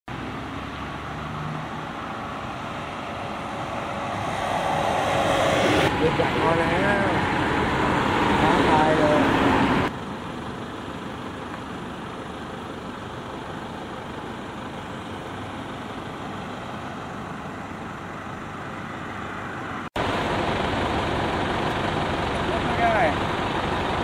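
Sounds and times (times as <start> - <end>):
road traffic hum: 0.1 - 24.0.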